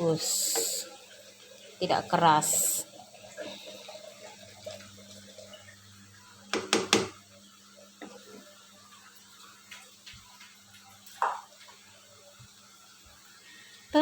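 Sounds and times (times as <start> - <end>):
food frying in hot oil: 0.0 - 14.0.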